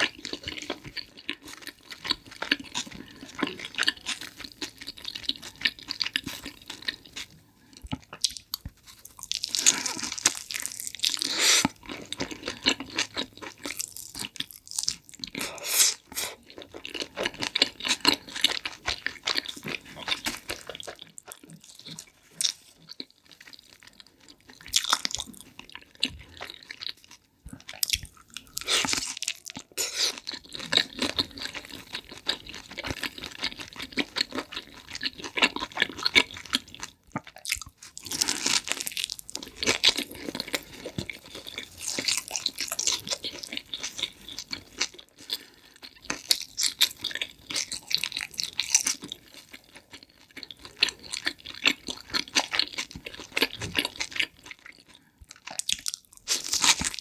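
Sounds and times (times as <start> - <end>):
chewing and crunching pizza: 0.0 - 57.0.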